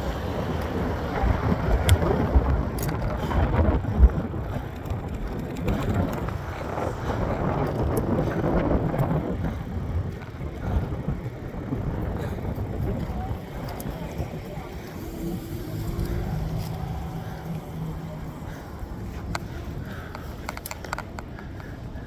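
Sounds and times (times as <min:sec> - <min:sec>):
bike clicks: 0:00.0 - 0:22.0
wind buffeting microphone: 0:00.0 - 0:22.0.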